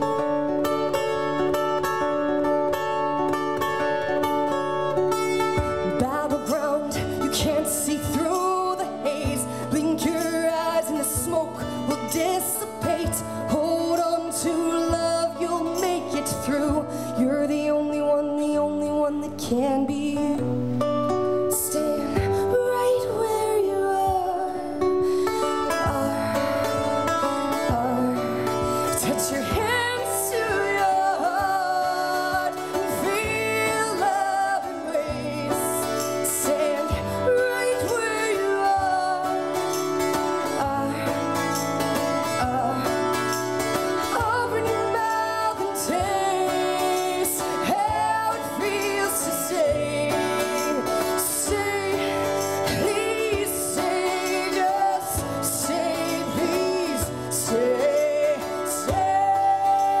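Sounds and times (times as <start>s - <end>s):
acoustic guitar strumming: 0.0s - 60.0s
woman singing: 4.5s - 60.0s.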